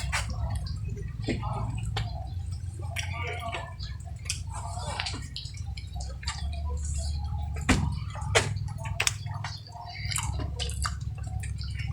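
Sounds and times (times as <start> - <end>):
steady low hum: 0.0 - 11.9
wet eating sounds: 0.0 - 11.9.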